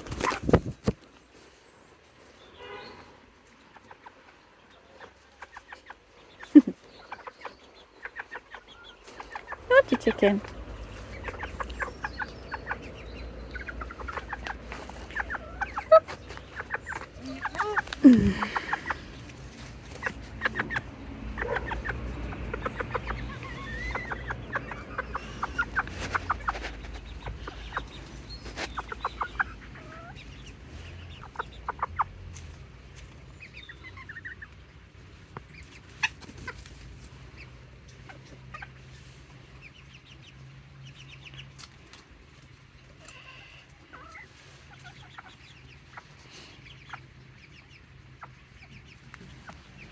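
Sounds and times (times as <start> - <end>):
chickens clucking: 0.0 - 49.9.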